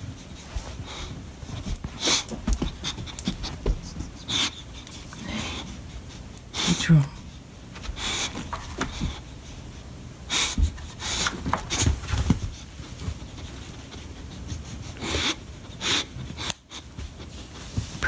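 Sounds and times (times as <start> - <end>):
dog snorting and panting: 0.0 - 18.0.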